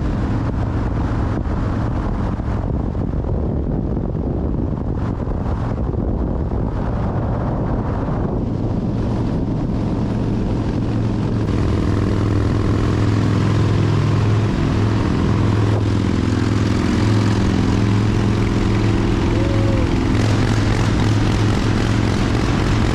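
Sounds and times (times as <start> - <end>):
motorcycle engine cruising: 0.0 - 22.9
wind and road rush: 0.0 - 22.9.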